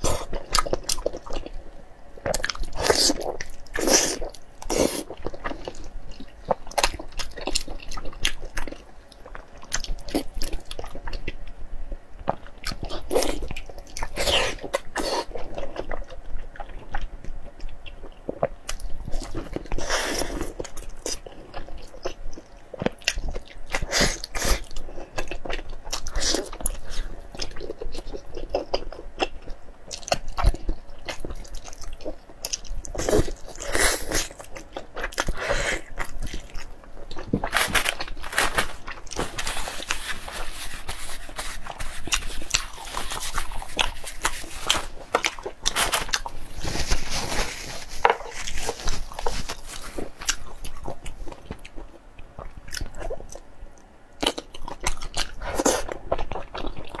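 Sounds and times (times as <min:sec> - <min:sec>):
chewing with crunches and wet clicks: 0:00.0 - 0:11.6, 0:12.2 - 0:39.2, 0:41.2 - 0:46.4, 0:48.1 - 0:57.0.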